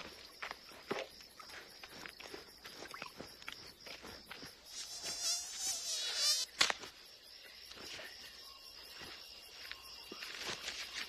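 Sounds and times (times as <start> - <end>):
night insects chirping and trilling: 0.0 - 11.0.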